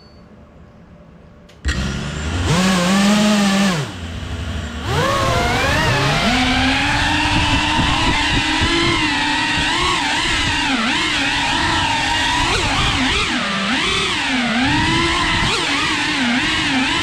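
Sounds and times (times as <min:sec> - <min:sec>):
drone motors whining: 0:01.6 - 0:17.0.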